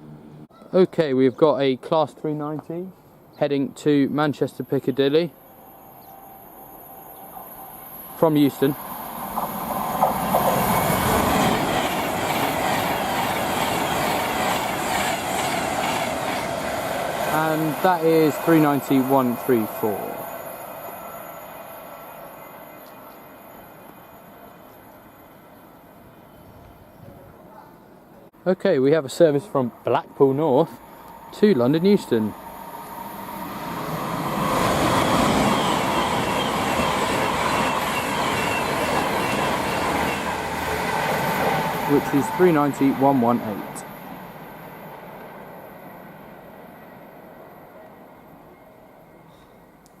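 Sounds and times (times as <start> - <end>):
train passing: 2.4 - 50.0.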